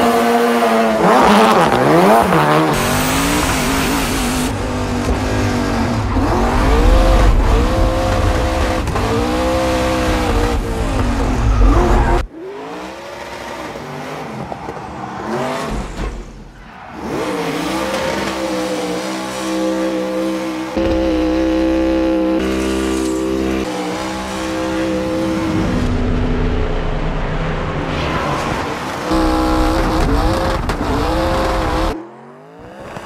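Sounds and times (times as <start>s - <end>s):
car engines revving hard: 0.0s - 33.0s.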